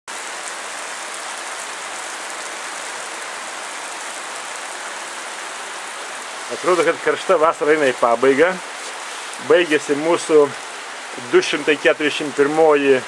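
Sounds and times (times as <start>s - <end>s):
heavy rain on pavement: 0.1s - 13.0s.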